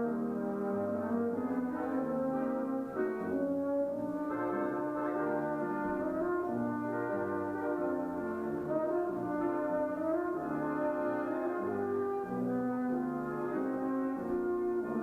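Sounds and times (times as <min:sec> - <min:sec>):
french horn and brass music: 0:00.0 - 0:15.0.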